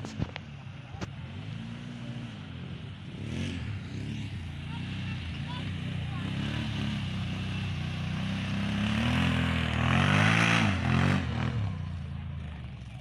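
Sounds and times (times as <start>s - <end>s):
motor vehicle engine passing by: 1.0s - 13.0s.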